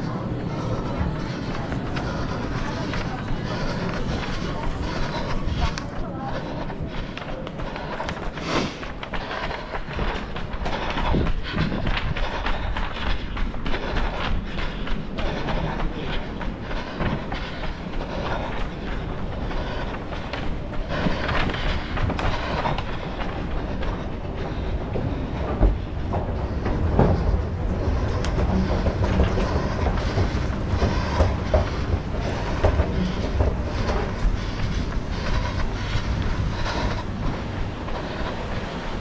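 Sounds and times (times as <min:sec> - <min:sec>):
running footsteps thudding: 0:00.0 - 0:39.0.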